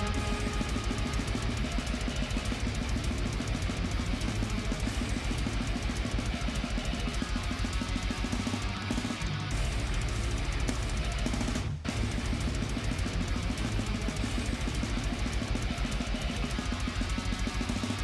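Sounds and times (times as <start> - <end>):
fast drum-kit playing: 0.0 - 18.0
heavy metal music: 0.0 - 18.0.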